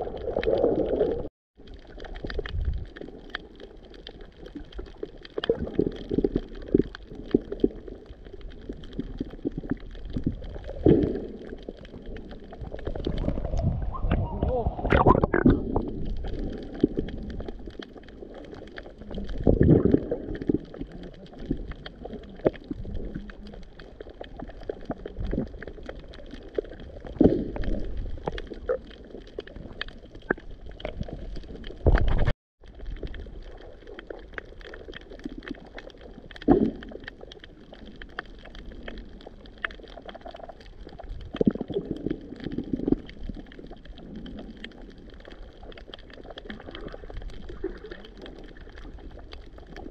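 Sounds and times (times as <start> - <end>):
underwater crackle of tiny clicks: 0.0 - 14.2, 14.9 - 49.9
water gurgling surge: 0.0 - 49.9.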